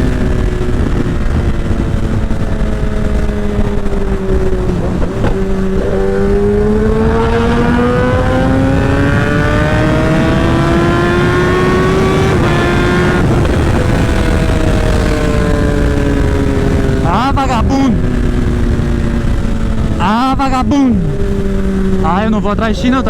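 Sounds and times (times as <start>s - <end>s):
motorcycle engine accelerating: 0.0s - 23.0s
wind rush on microphone: 0.0s - 23.0s.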